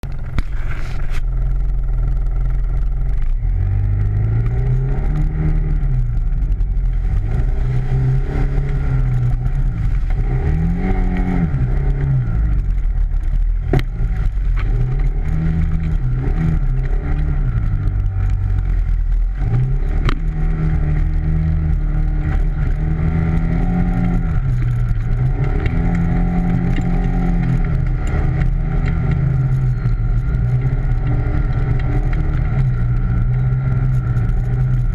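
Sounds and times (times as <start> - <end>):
atv engine revving: 0.0 - 34.9.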